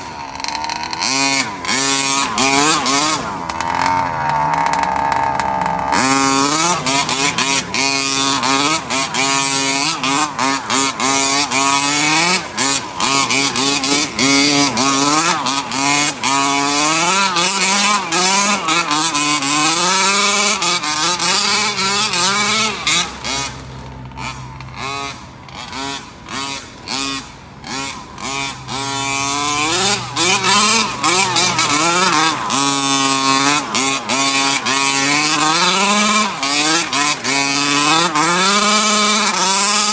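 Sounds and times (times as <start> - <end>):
small two-stroke engine revving: 0.0 - 39.9.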